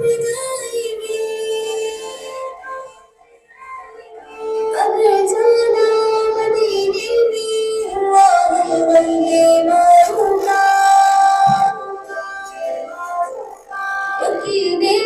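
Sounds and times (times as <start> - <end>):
song from a phone loudspeaker: 0.0 - 15.0.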